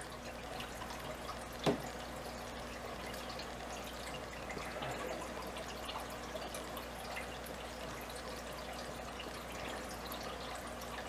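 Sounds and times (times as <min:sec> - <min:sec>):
aquarium water trickling: 0:00.0 - 0:11.0
low steady hum: 0:00.0 - 0:11.0.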